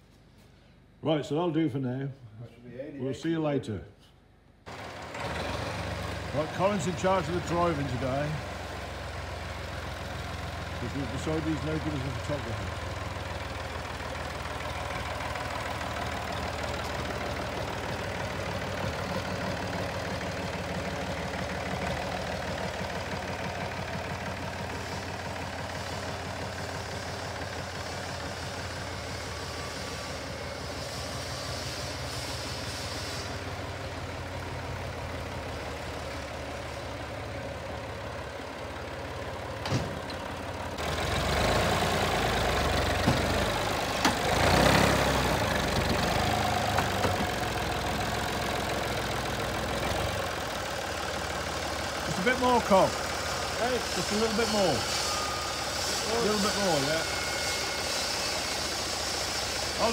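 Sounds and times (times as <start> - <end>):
tractor engine running: 4.7 - 59.9.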